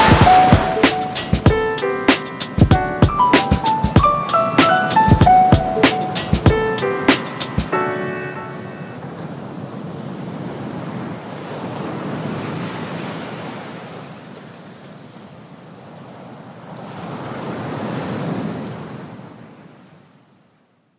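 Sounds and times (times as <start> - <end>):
ocean waves washing in: 0.0 - 19.8.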